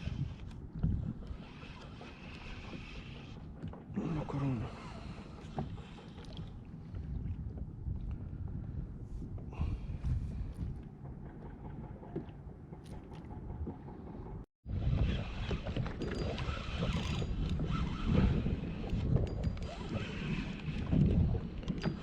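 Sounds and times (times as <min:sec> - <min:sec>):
water moving around kayak: 0:00.0 - 0:22.0
wind buffeting microphone: 0:00.0 - 0:22.0.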